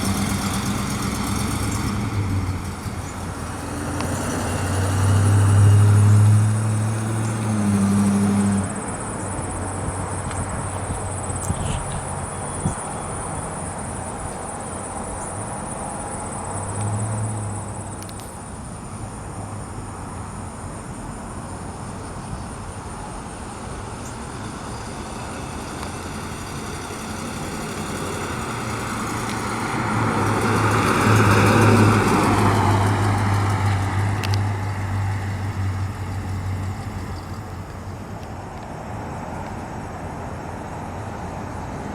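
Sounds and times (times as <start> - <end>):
car engine passing by: 0.0 - 18.7, 22.0 - 41.9
insects chirping: 0.0 - 41.9.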